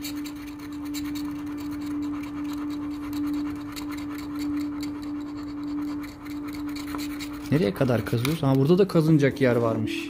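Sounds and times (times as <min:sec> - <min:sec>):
scratching lottery ticket: 0:00.0 - 0:09.5
steady low hum: 0:00.0 - 0:10.0.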